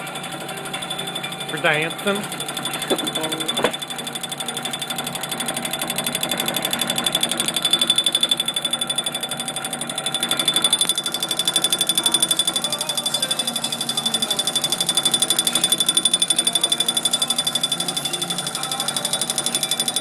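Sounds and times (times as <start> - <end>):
drill press rattling and whining: 0.0 - 20.0.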